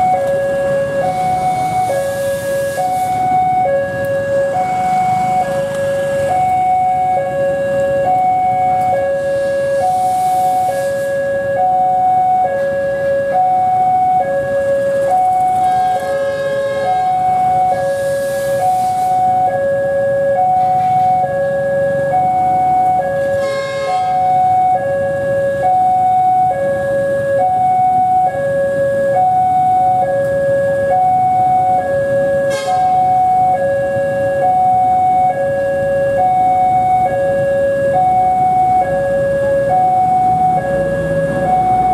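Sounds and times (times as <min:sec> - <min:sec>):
level crossing two-tone alarm: 0:00.0 - 0:41.9.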